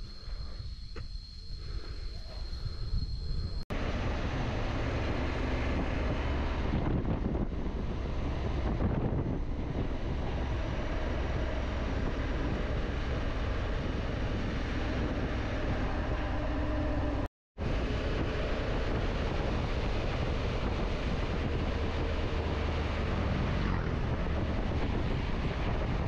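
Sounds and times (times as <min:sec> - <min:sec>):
road noise: 0:00.0 - 0:26.0
motorcycle engine drone: 0:01.6 - 0:26.0
wind buffeting microphone: 0:02.1 - 0:26.0.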